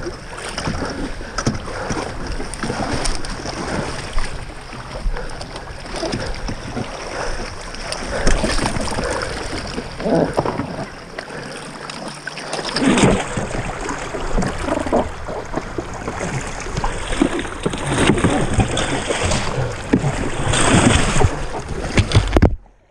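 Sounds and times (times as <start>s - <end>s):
water splashing around boat: 0.0s - 22.9s.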